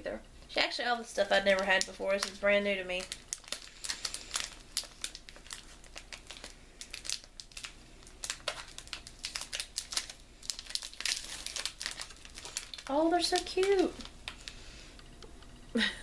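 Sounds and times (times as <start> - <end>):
chocolate wrapper crinkling: 0.5 - 14.6.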